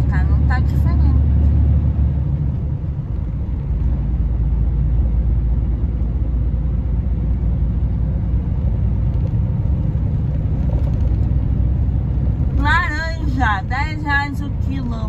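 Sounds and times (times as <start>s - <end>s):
road noise: 0.0s - 15.0s
truck diesel engine rumble: 0.0s - 15.0s.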